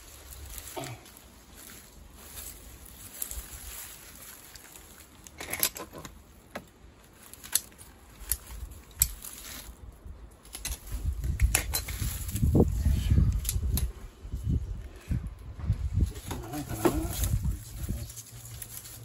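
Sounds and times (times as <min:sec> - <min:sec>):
rustling of dry leaves and tape: 0:00.0 - 0:19.0.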